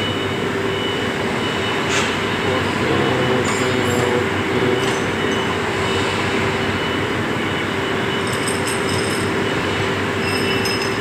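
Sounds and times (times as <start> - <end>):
machinery humming: 0.0 - 11.0.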